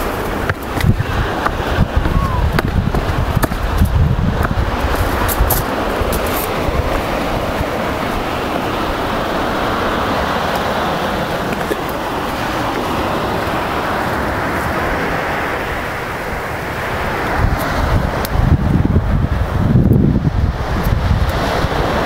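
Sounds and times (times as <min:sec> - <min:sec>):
surf breaking on shingle beach: 0:00.0 - 0:22.0.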